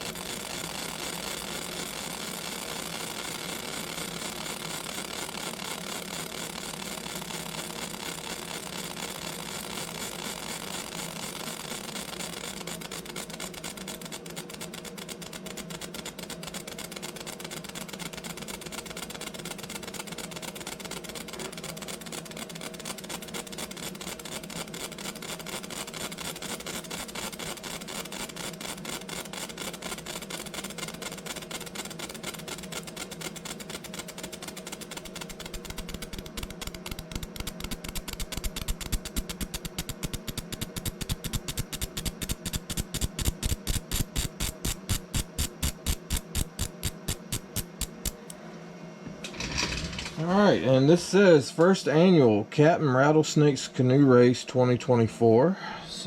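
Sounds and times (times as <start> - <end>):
small machine pulsing: 0.0 - 48.4.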